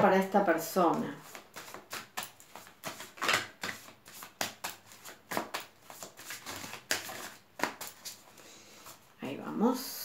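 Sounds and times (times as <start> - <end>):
cards being shuffled: 0.9 - 9.0.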